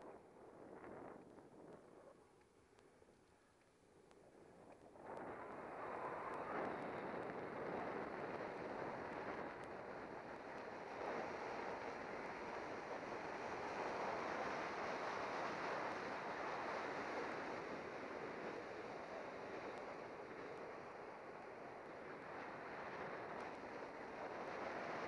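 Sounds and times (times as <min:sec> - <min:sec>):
wind rushing over microphone: 0:04.2 - 0:25.0.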